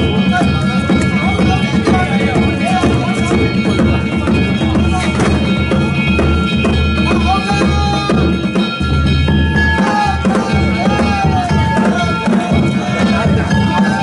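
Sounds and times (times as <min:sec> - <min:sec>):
deep drum beating: 0:00.0 - 0:14.0
small hand gongs ringing: 0:00.0 - 0:14.0.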